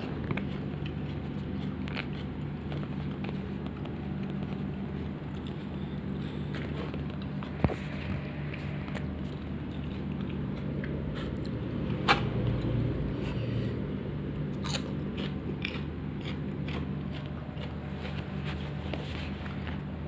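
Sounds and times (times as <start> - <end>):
crunchy chewing: 0.0 - 12.8, 14.3 - 20.0
low hum: 0.0 - 20.0.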